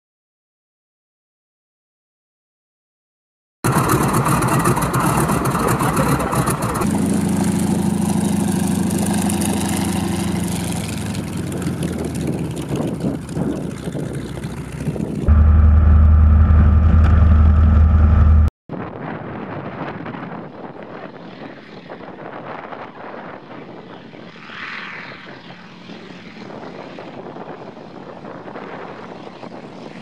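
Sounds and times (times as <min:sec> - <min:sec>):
model aircraft engines running: 0:03.7 - 0:18.5, 0:20.0 - 0:30.0.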